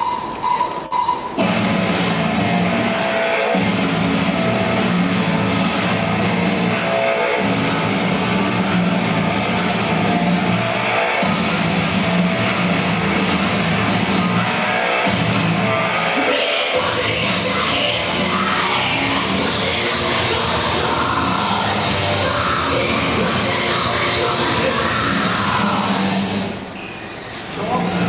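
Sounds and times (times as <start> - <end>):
heavy metal music: 0.0 - 26.6.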